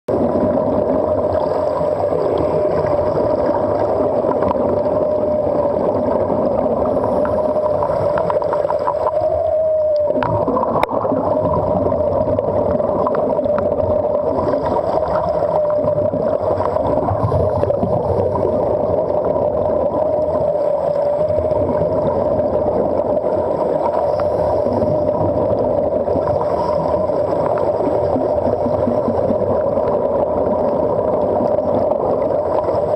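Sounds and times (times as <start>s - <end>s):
rushing water: 0.1s - 32.9s
underwater droning hum: 0.1s - 32.9s.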